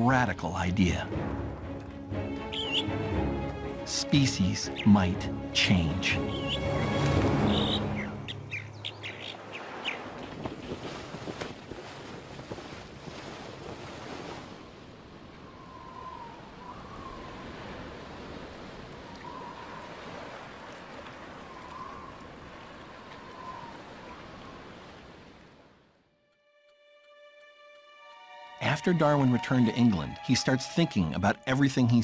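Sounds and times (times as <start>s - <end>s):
sea waves: 0.0s - 26.1s, 27.8s - 32.0s.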